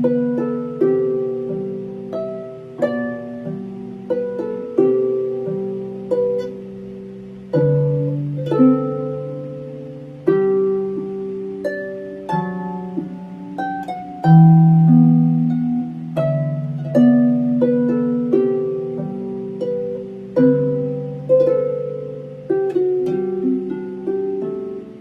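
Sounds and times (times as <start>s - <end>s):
plucked string instrument music: 0.0s - 25.0s.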